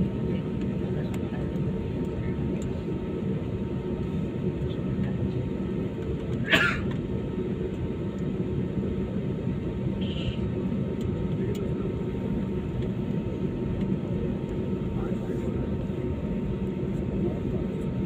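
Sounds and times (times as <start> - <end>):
airliner cabin engine drone: 0.0 - 18.0.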